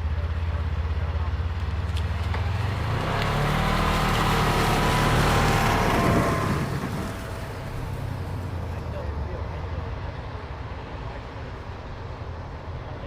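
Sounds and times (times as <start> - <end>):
farm machine engine with whine: 0.0 - 13.0.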